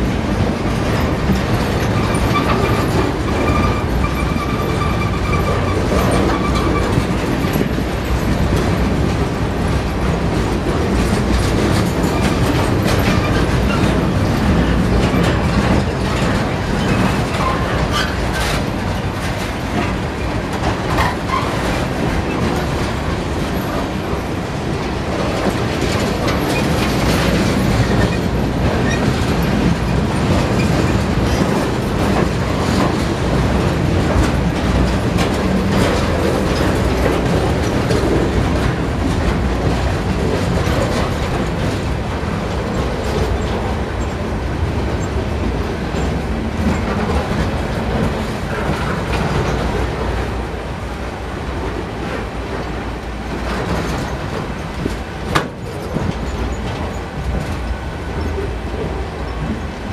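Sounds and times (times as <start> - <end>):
clickety-clack over rail joints: 0.0 - 59.9
freight train wheels rumbling: 0.0 - 59.9.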